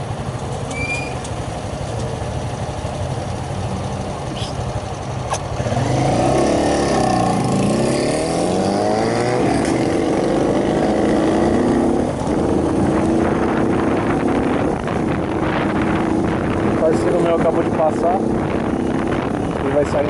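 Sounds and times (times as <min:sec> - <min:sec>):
motorcycle engine running: 0:00.0 - 0:20.0
wind noise on microphone: 0:03.4 - 0:20.0.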